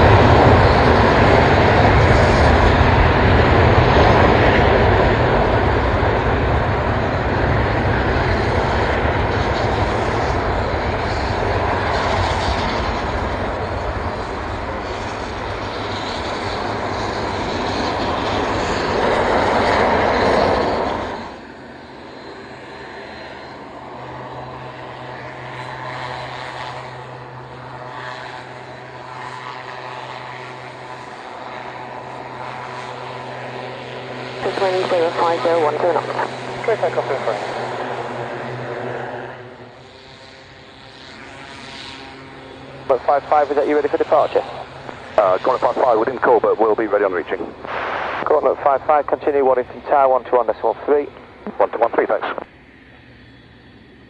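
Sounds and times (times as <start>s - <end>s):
jet engines roaring: 0.0s - 54.0s
turboprop engine and propeller hum: 0.0s - 54.0s.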